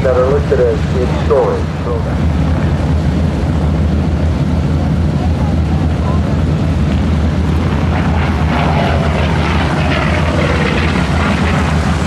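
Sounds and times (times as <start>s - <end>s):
radial aircraft engine droning: 0.0s - 12.0s.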